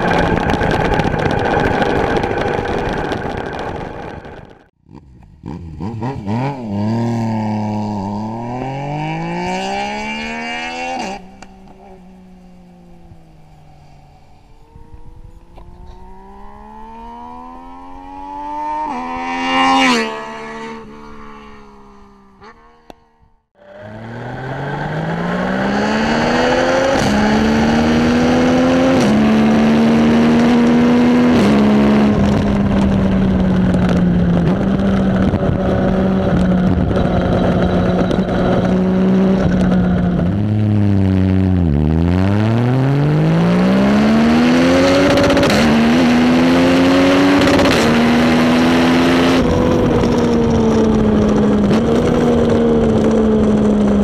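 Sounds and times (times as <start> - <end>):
motorcycle engine accelerating: 0.0 - 54.0
motorcycle passing by: 0.0 - 54.0.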